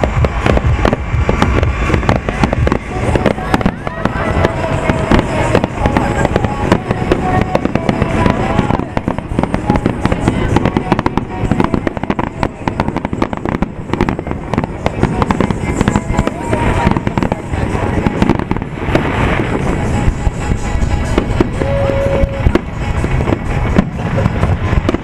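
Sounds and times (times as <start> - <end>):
firework crackles: 0.0 - 25.0.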